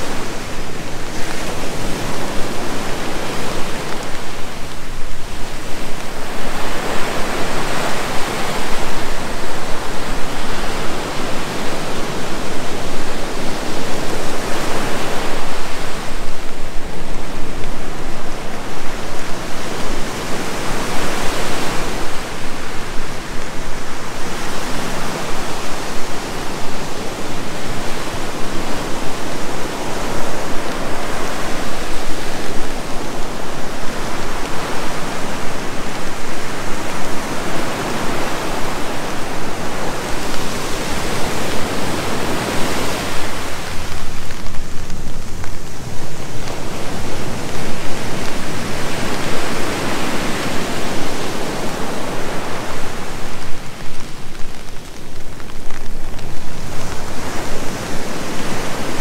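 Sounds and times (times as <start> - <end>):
rain falling: 0.0 - 59.0
surf breaking on beach: 0.0 - 59.0.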